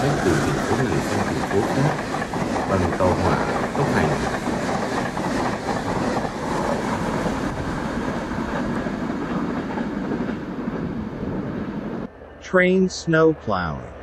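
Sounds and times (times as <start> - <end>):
train passing on rails: 0.0 - 14.0.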